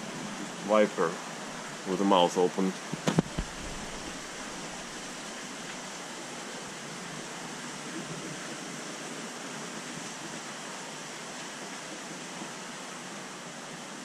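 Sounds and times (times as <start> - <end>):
aquarium water and bubbles hissing: 0.0 - 14.0.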